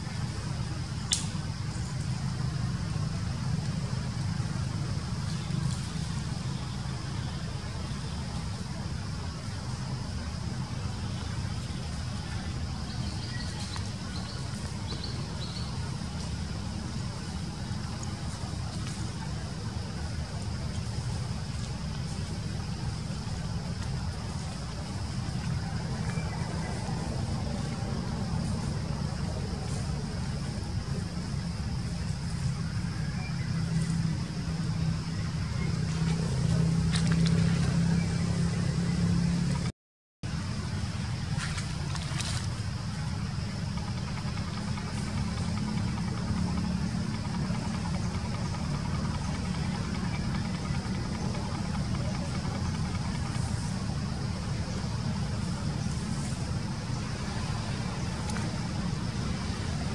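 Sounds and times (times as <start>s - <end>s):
low outdoor rumble: 0.0s - 59.9s.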